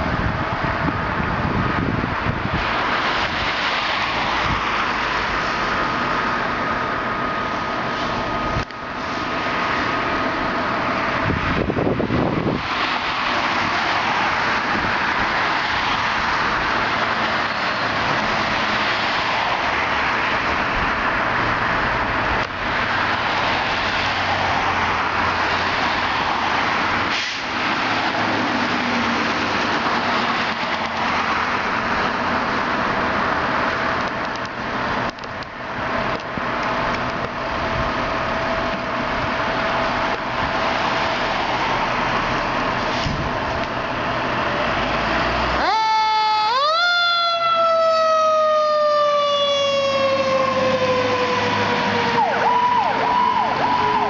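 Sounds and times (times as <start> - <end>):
fire engine driving: 0.0 - 54.0.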